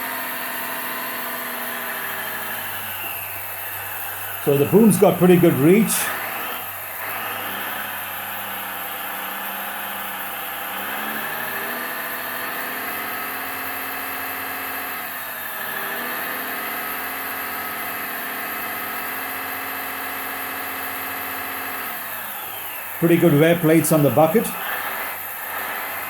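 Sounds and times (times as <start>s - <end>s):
diesel engine sound: 0.0s - 26.0s
hydraulic pump: 0.0s - 26.0s.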